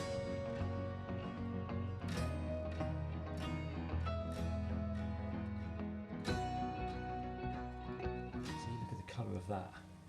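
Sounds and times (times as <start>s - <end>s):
plucked-string music with beat: 0.0s - 9.8s.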